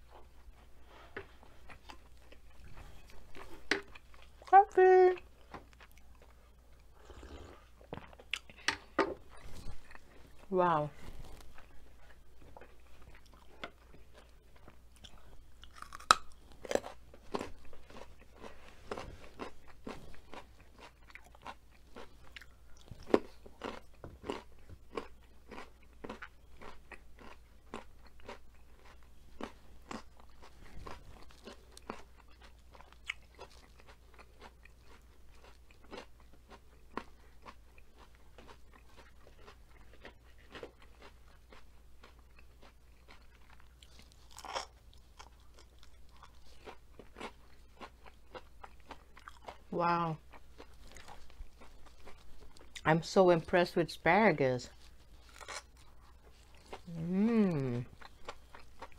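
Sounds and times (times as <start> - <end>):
crunching and chewing crisp food: 0.0 - 58.9.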